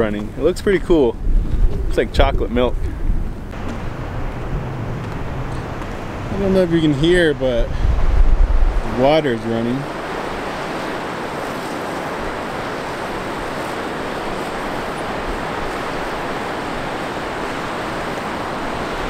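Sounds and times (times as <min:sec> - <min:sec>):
waterfall rushing: 0:03.5 - 0:19.0.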